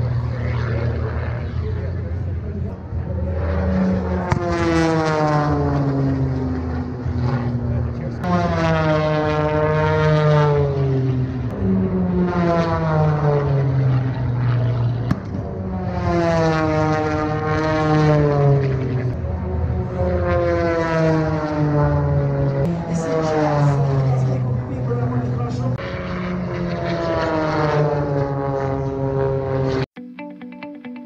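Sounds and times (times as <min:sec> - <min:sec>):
propeller plane flying by: 0:00.0 - 0:29.9
steady low drone: 0:00.0 - 0:29.9.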